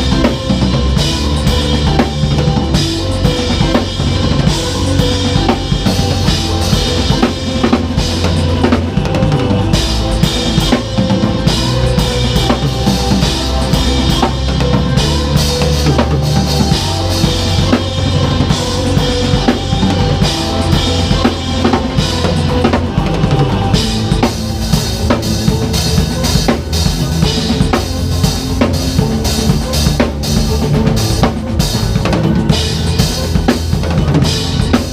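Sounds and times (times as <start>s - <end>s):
bass line: 0.0s - 34.9s
drum kit playing: 0.0s - 34.9s.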